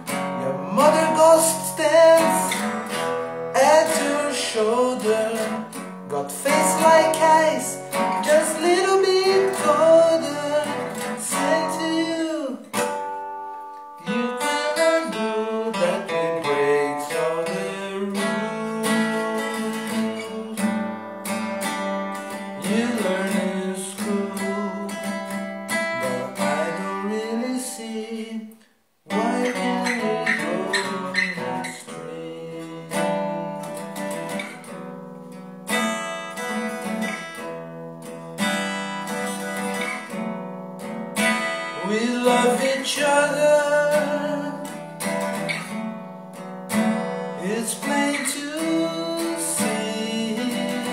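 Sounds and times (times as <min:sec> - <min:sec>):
acoustic guitar chords: 0:00.0 - 0:50.9.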